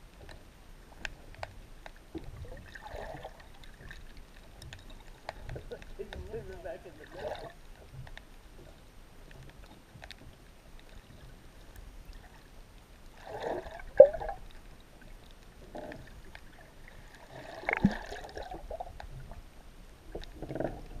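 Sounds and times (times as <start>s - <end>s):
muffled underwater water sloshing: 0.0s - 21.0s.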